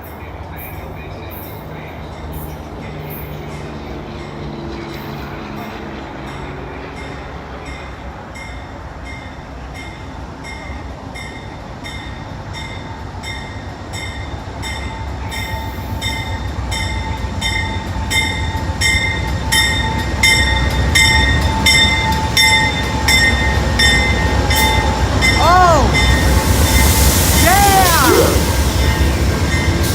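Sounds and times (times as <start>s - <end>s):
train bell ringing: 0.0s - 27.4s, 28.3s - 29.9s
train rumbling on rails: 0.0s - 29.9s.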